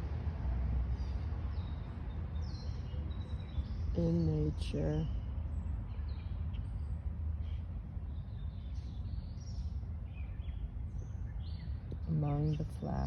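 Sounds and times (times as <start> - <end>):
steady low rumble: 0.0 - 13.0
small birds chirping: 0.8 - 13.0.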